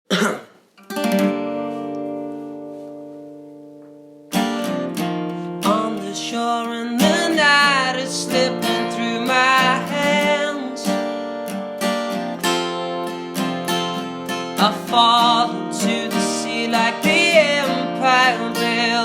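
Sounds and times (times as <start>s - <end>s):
acoustic guitar strumming chords: 0.8s - 19.0s.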